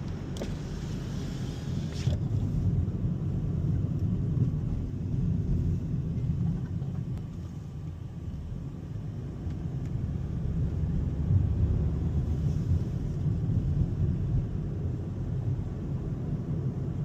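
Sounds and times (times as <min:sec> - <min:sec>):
car cabin road drone: 0:00.0 - 0:17.0.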